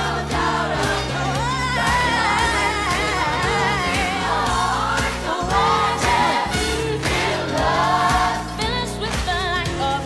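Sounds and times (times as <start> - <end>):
gospel choir singing: 0.0 - 9.0
bass and drum beat: 0.0 - 10.0.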